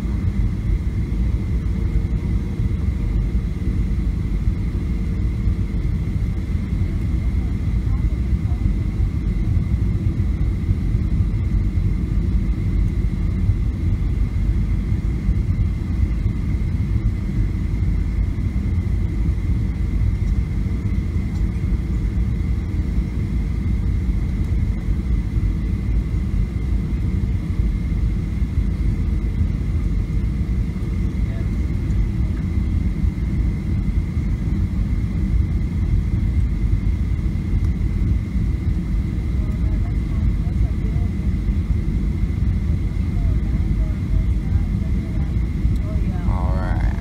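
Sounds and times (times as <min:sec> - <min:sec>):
airplane cabin rumble: 0:00.0 - 0:47.0
thin steady whine: 0:00.0 - 0:47.0.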